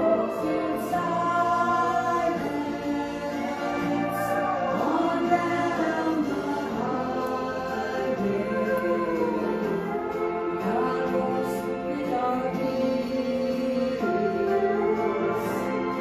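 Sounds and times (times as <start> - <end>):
group singing gospel in harmony: 0.0 - 16.0
woman singing into microphone: 0.0 - 16.0.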